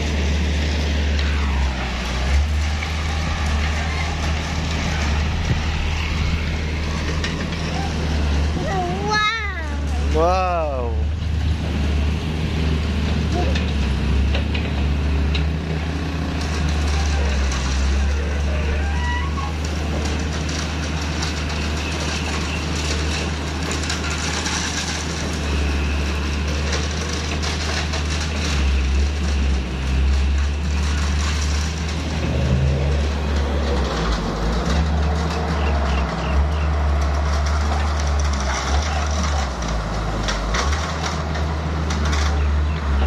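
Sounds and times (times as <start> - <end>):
diesel engines droning: 0.0 - 43.0.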